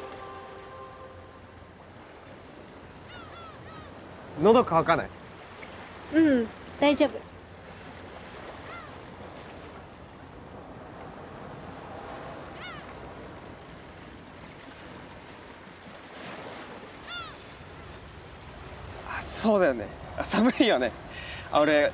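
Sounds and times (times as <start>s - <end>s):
sea waves washing on beach: 0.0s - 21.9s.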